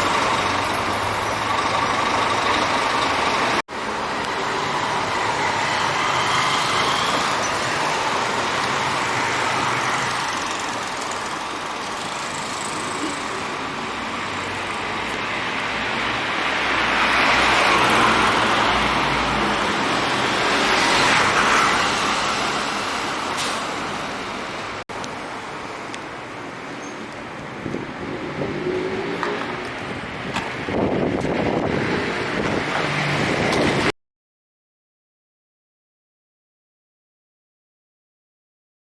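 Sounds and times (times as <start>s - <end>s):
vehicles passing: 0.0s - 33.9s.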